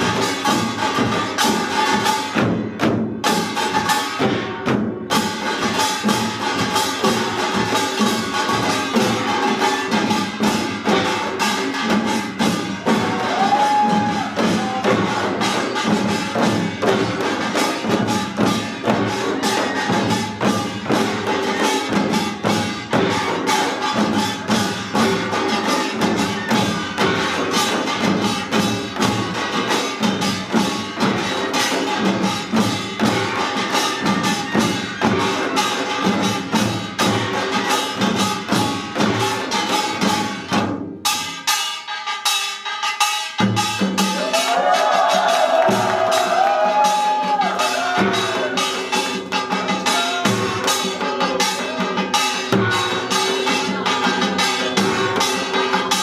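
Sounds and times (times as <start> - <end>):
barrel drums: 0.0 - 56.0
hourglass drums: 0.0 - 56.0.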